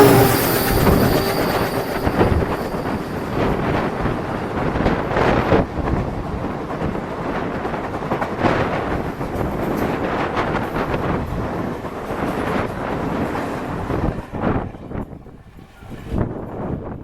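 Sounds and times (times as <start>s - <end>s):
train rumbling along track: 0.0s - 16.8s.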